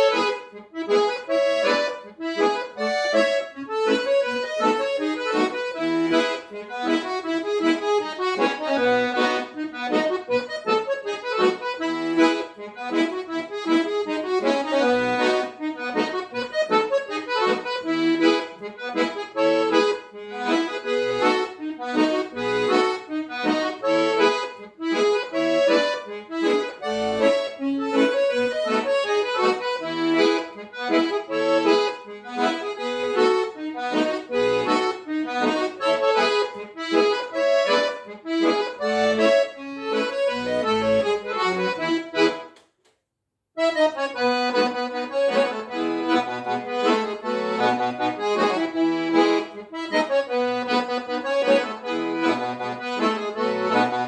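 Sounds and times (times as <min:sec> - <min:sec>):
piano accordion dance tune: 0:00.0 - 0:42.6, 0:43.6 - 0:54.0.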